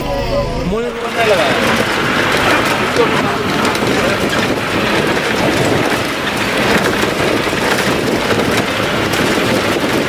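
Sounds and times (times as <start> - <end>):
bus engine and road noise: 0.0 - 10.0
small rattles: 1.1 - 10.0.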